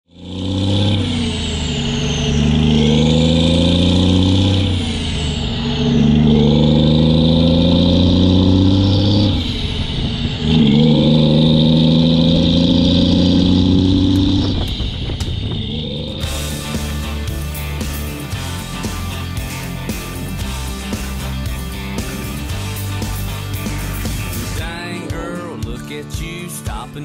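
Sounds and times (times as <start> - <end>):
diesel engine accelerating: 0.0 - 27.0.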